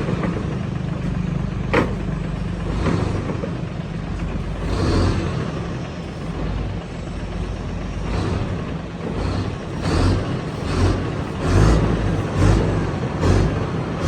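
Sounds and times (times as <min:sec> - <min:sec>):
excavator diesel engine surging: 0:00.0 - 0:14.0.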